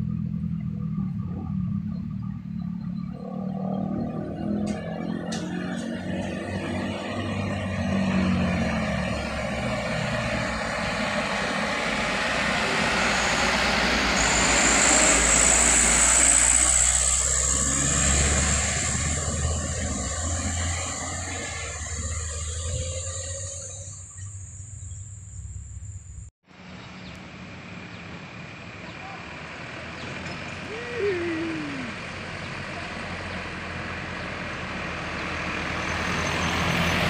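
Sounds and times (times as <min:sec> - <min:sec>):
diesel trucks passing: 0:00.0 - 0:37.0.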